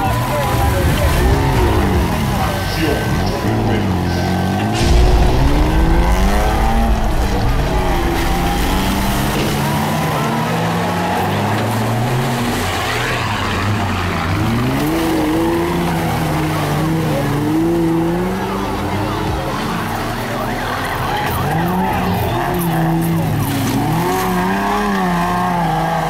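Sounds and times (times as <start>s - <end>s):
truck engines revving in mud: 0.0s - 26.0s.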